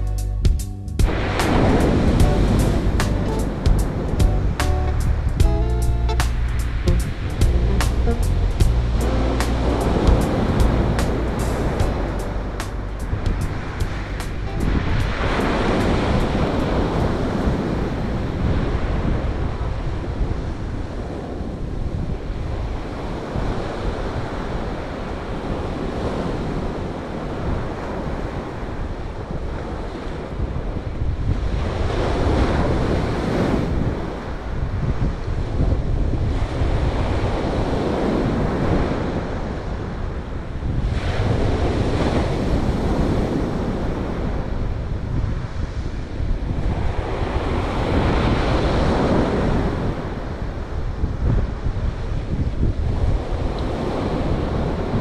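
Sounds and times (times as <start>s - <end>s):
wind rumble on microphone: 0.0s - 55.0s.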